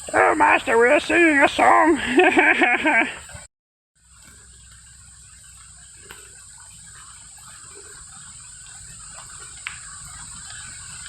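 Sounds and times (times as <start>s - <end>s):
insects chirring: 0.0s - 3.4s, 4.0s - 11.0s.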